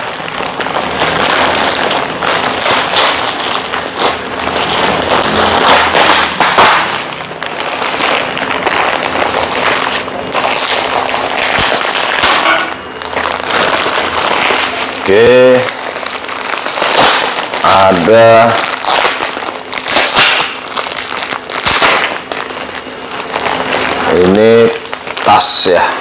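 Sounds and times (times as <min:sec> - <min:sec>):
plastic bags crinkling: 0:00.0 - 0:26.0.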